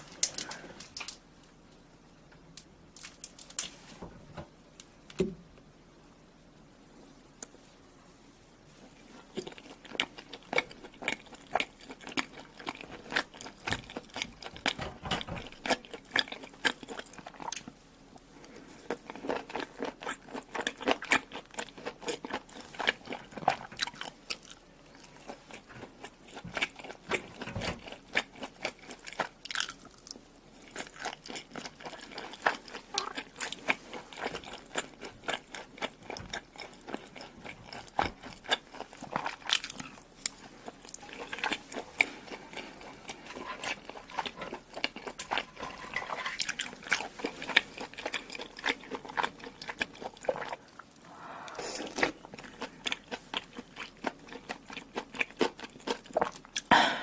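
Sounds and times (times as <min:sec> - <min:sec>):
crunching and wet chewing: 0:08.8 - 0:56.7.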